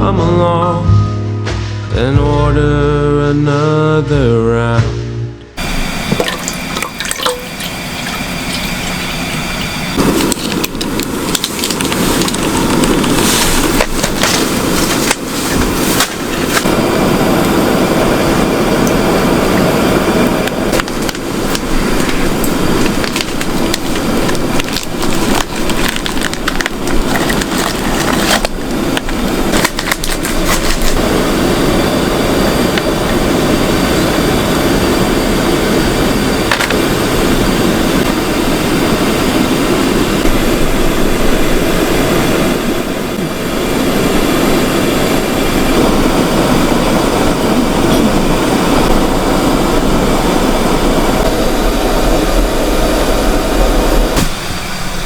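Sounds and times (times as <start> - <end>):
fire crackling and popping: 5.6 - 54.8
wood fire rushing: 5.6 - 55.0.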